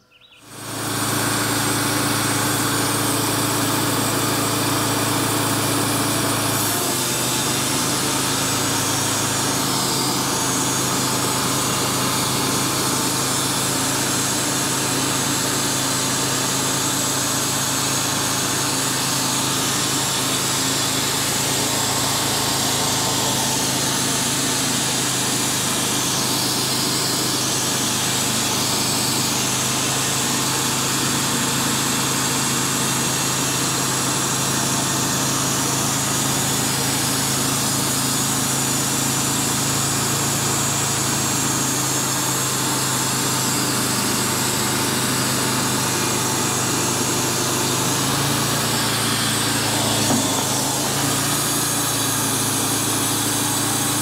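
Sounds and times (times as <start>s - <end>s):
band sawmill sawing a log: 0.0s - 54.0s.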